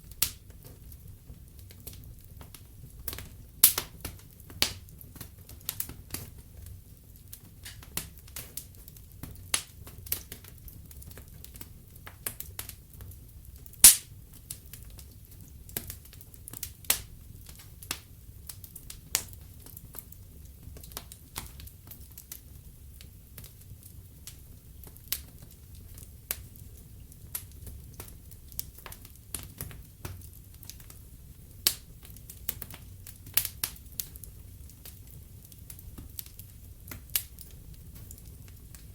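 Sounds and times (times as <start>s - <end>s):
burning logs crackling: 0.0s - 38.9s
low rumble of flames: 0.0s - 38.9s.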